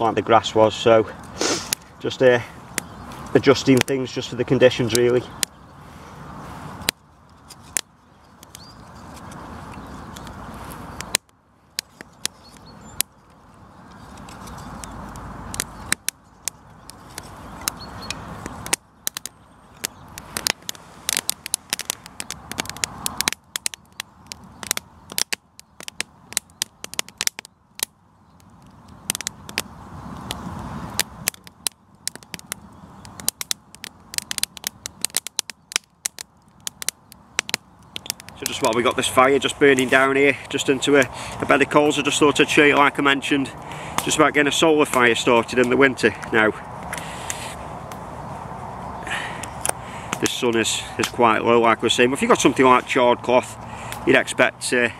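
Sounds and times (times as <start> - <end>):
kindling fire crackling and popping: 0.0 - 54.9.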